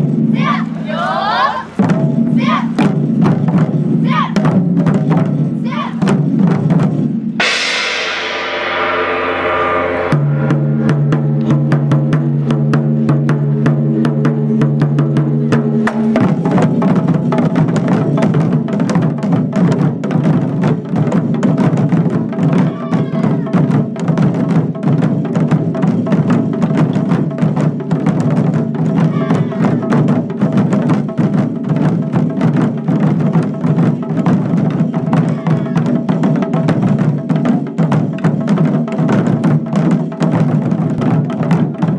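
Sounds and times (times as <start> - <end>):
taiko drums playing: 0.0 - 41.9.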